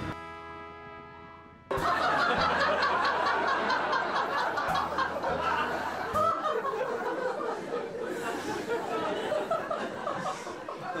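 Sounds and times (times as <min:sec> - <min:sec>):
people laughing and snickering: 0:01.7 - 0:11.0.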